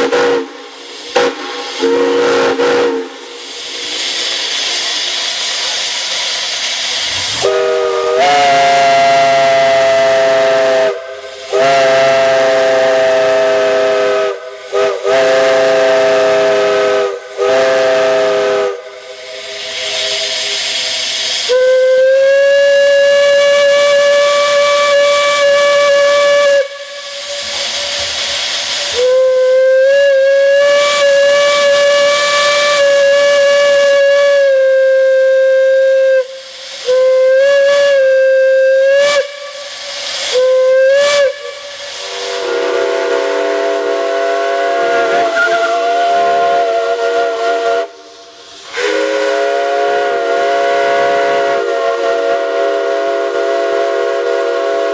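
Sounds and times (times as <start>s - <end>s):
single-note steam whistle blasts: 0.0s - 6.5s, 7.1s - 54.9s
hiss of steam: 0.0s - 54.9s.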